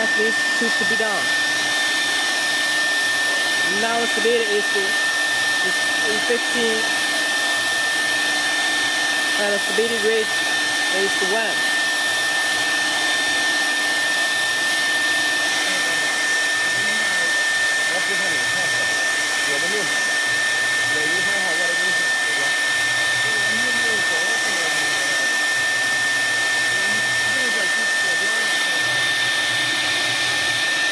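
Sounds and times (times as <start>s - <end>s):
router spindle whine: 0.0s - 30.9s.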